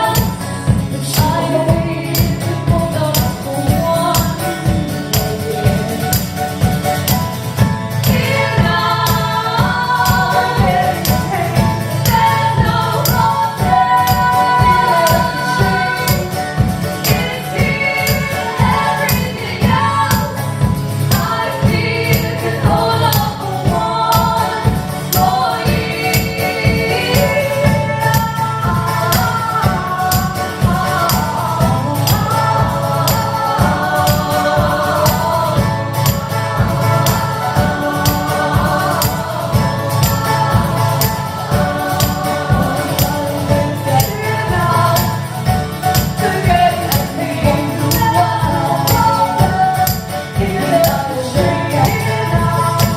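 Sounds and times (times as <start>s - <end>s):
jingling tambourine: 0.0s - 52.9s
several voices singing: 0.0s - 52.9s
steady percussion beat: 0.0s - 52.9s.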